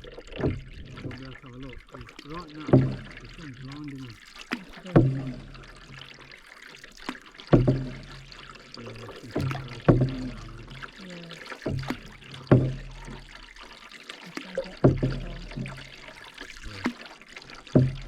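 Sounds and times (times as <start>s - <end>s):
canoe paddle strokes in water: 0.0s - 18.0s
water trickling from paddle: 0.0s - 18.0s.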